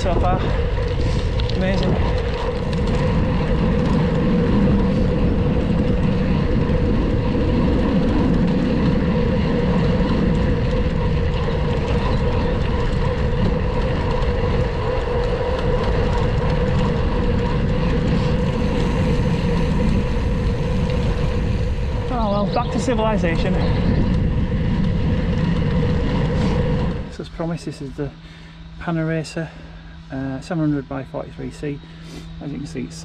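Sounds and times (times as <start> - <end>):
bike tyre noise humming: 0.0 - 33.0
wind rumbling on microphone: 0.0 - 33.0.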